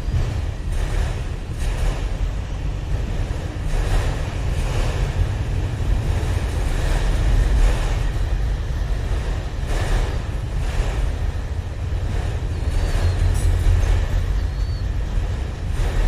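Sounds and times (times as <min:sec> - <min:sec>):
train rolling past: 0:00.0 - 0:16.0
wind buffeting microphone: 0:00.0 - 0:16.0.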